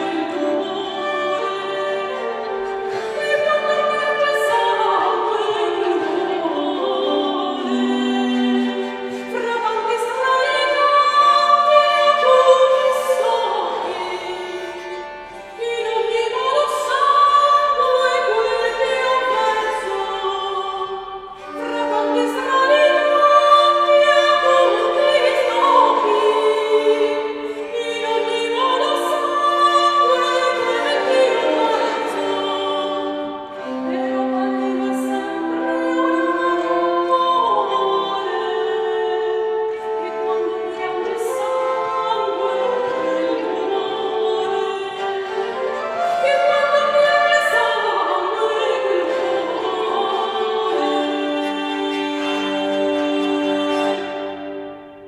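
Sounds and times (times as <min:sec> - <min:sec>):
woman singing: 0:00.0 - 0:54.5
bowed viola: 0:00.0 - 0:55.0.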